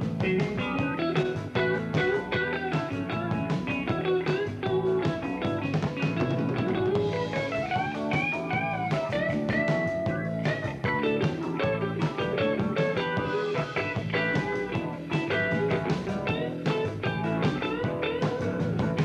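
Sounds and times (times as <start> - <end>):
lead electric guitar: 0.0 - 19.0
rock band playing: 0.0 - 19.0.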